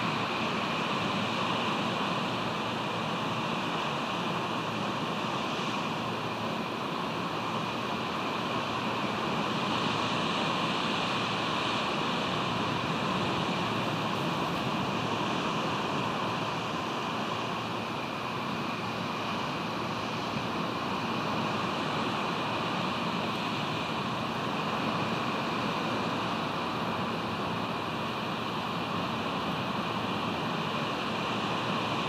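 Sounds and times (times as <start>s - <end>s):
ocean surf: 0.0s - 32.0s.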